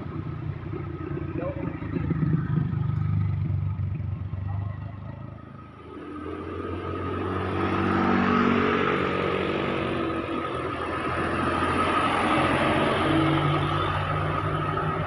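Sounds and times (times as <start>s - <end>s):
vehicle engine running close by: 0.0s - 15.0s.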